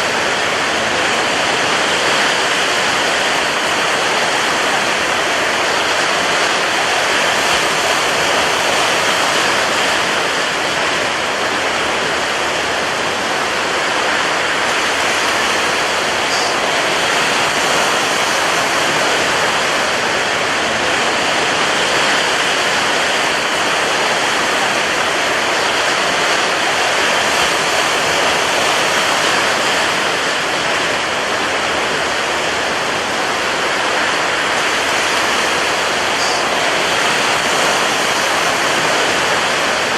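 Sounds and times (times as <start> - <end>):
rough sea surf: 0.0 - 39.9
strong wind: 0.0 - 39.9.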